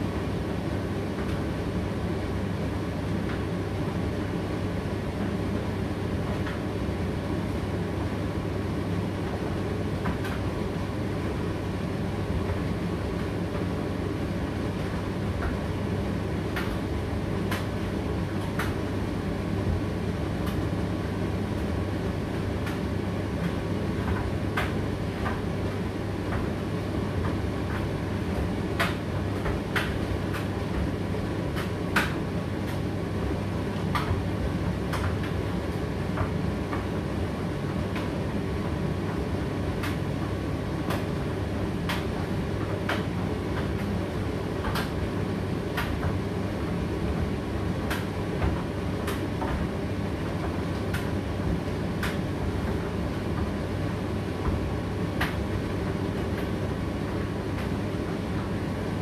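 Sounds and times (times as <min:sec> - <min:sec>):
tumble dryer motor humming: 0:00.0 - 0:59.0.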